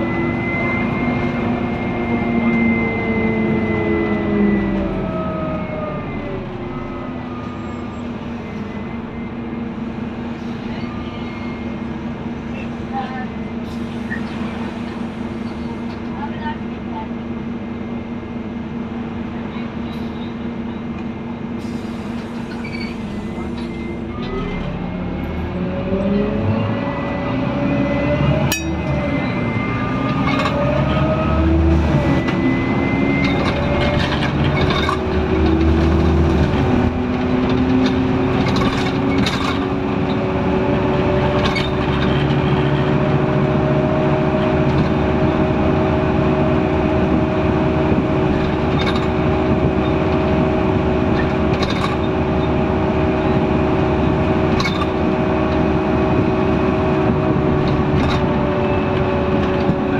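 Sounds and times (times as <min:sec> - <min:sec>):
bus diesel engine accelerating: 0:00.0 - 0:59.9.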